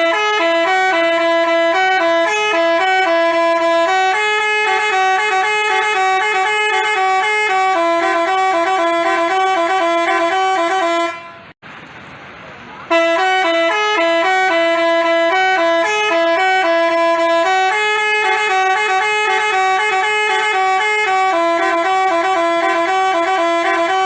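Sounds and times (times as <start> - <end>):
bus air horn playing a tune: 0.0 - 11.6, 12.9 - 24.0.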